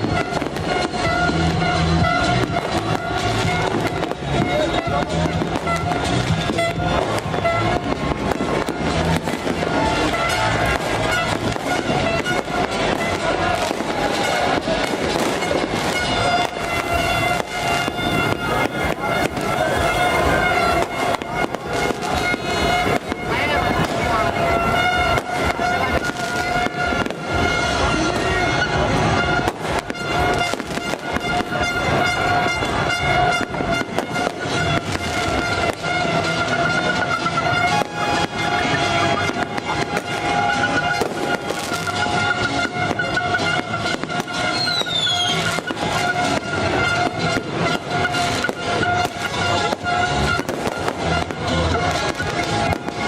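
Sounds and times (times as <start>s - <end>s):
steady horn-like tone: 0.0s - 44.6s
fireworks bangs and crackles: 0.0s - 53.0s
loud music with heavy bass: 0.0s - 53.0s.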